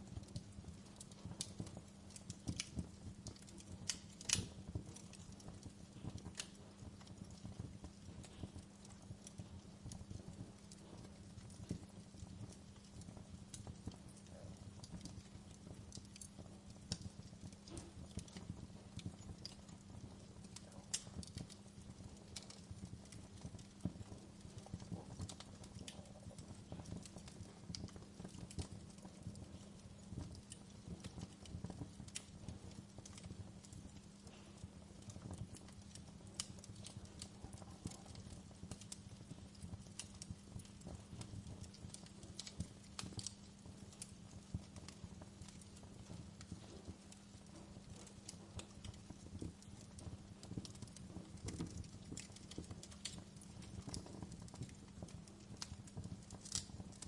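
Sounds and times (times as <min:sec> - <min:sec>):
flames rumbling: 0:00.0 - 0:57.0
wood fire crackling and popping: 0:00.0 - 0:57.0.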